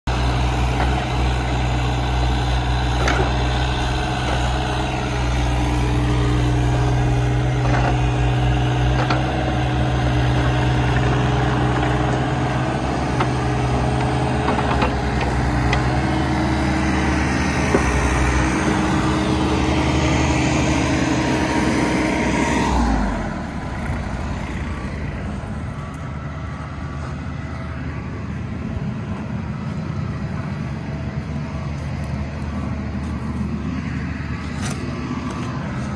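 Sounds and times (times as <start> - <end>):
excavator diesel engine running: 0.0 - 35.9
hydraulics working: 0.1 - 35.9.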